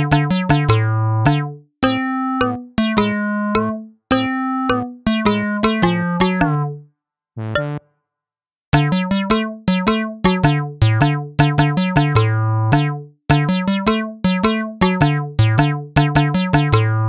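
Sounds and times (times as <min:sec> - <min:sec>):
bouncy background music: 0:00.0 - 0:07.9, 0:08.8 - 0:17.0.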